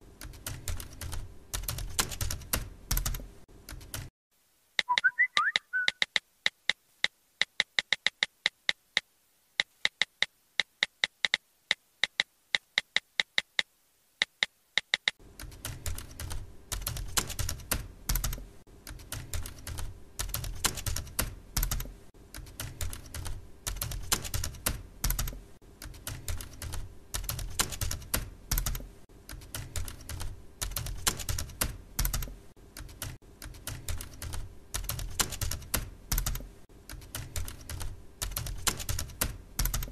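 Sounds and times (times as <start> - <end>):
typing on computer keyboard: 0.2 - 4.1, 4.8 - 39.9.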